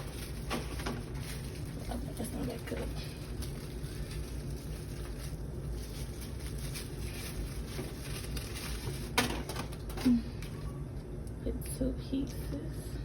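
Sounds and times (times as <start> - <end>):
plastic bags rustling: 0.0 - 10.8
steady low hum: 0.0 - 13.0.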